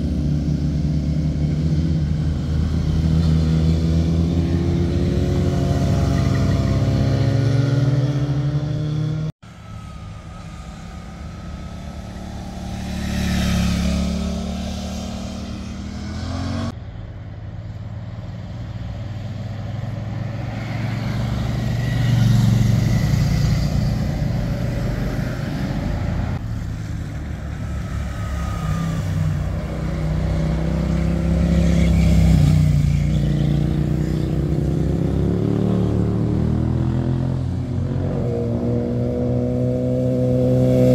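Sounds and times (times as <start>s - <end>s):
motorcycles passing through bend: 0.0s - 17.0s, 17.6s - 40.9s.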